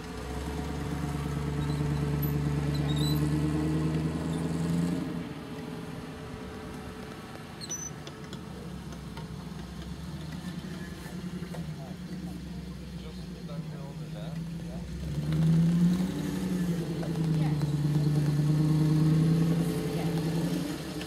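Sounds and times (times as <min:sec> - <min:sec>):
off-road vehicle engine working hard: 0:00.0 - 0:21.0.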